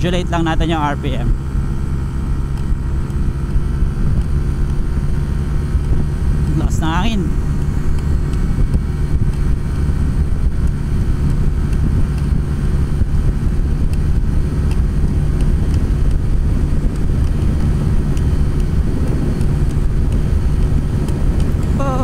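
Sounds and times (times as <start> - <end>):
scooter engine running: 0.0 - 22.0
wind buffeting microphone: 0.0 - 22.0.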